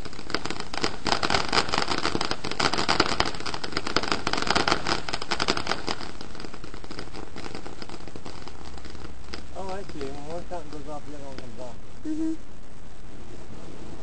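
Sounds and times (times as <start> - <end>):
firework crackling and popping: 0.0 - 14.0.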